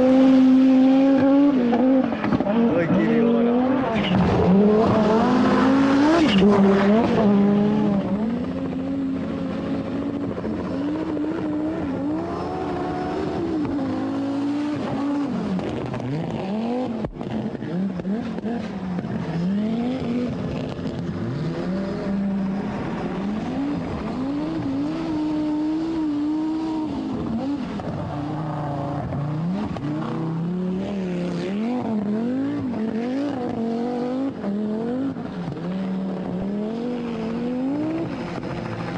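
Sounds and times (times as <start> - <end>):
rally car engine revving hard: 0.0 - 38.9.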